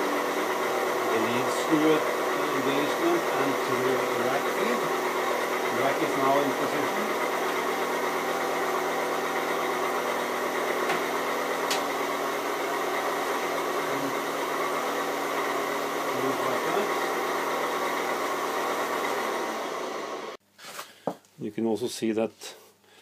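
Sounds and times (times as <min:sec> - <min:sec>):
milling machine humming: 0:00.0 - 0:20.4.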